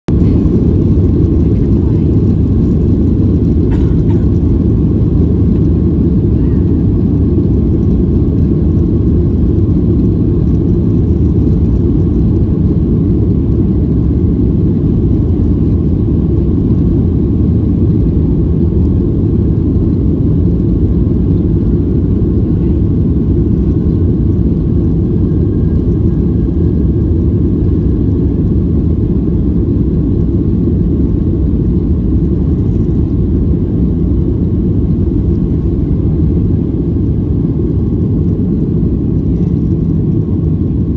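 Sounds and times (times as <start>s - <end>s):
jet engines low rumble: 0.0s - 40.9s.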